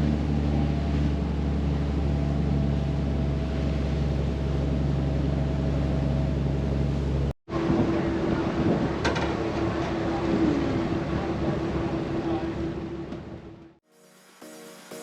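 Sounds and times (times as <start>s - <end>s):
vehicle engine low drone: 0.0s - 13.8s.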